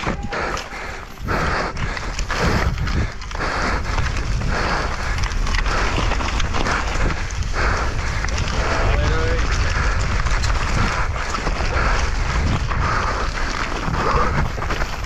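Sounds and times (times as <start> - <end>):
bike rattling and clicking: 0.0 - 15.0
rider breathing hard: 0.0 - 15.0
wind buffeting microphone: 0.0 - 15.0.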